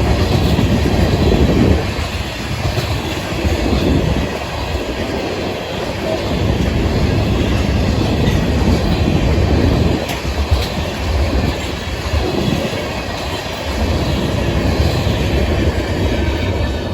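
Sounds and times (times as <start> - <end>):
freight train wheels rumbling: 0.0 - 16.9.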